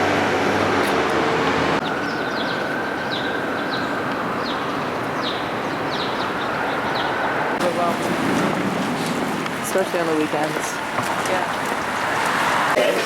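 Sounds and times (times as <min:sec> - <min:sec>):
loud vehicle noise: 0:00.0 - 0:13.0.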